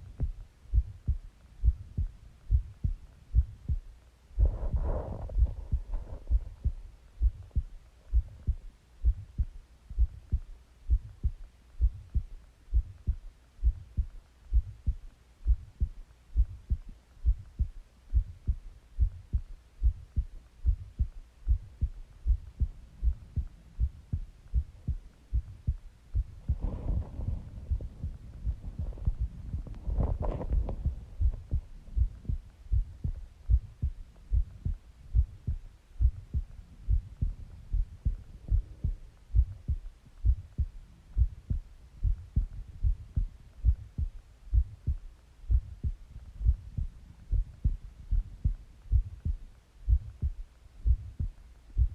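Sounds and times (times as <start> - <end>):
heartbeat thumps: 0.0 - 51.9.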